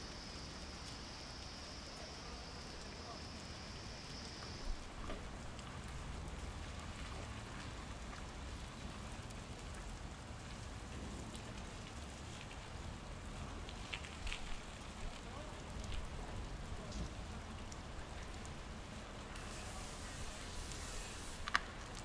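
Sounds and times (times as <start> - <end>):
rainwater dripping and pattering: 0.0 - 22.0.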